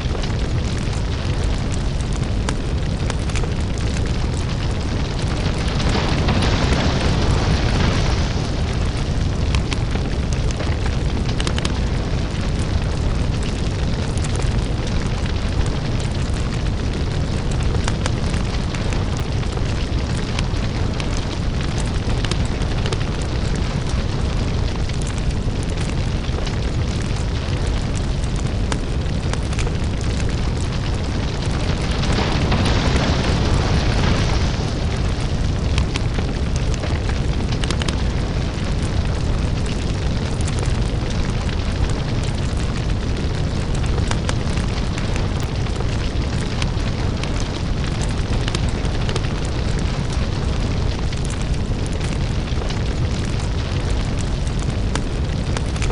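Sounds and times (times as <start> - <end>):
deep steady rumble: 0.0 - 55.9
fire crackling and popping: 0.0 - 55.9.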